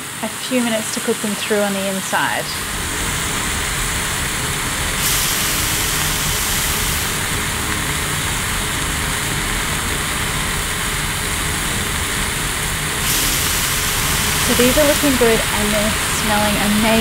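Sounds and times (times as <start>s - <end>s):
burger patties sizzling on a grill: 0.4s - 17.0s.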